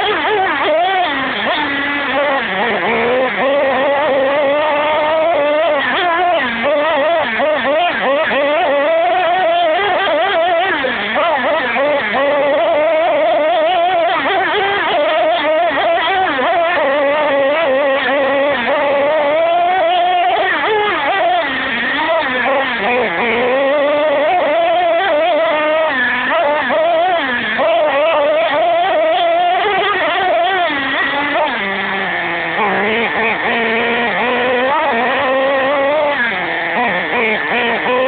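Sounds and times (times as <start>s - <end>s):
model truck engine revving: 0.0s - 38.0s.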